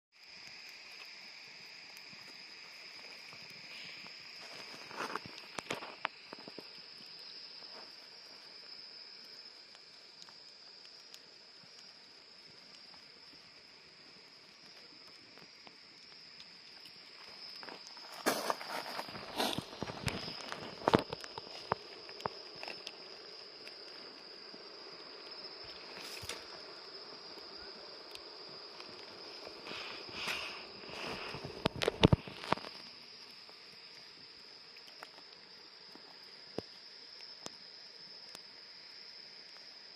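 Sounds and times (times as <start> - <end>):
night insects chirring: 0.1 - 39.9
campfire crackling and popping: 0.2 - 39.9.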